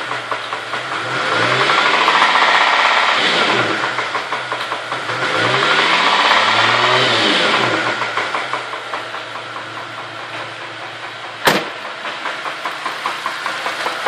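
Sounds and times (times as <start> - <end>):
car engine revving: 0.0 - 14.0
fast engine knocking: 0.0 - 14.0.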